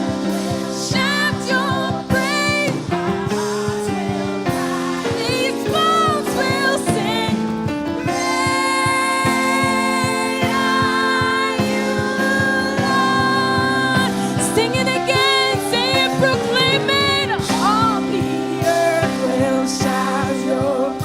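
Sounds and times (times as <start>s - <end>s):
held chords: 0.0s - 21.0s
person singing: 0.0s - 21.0s.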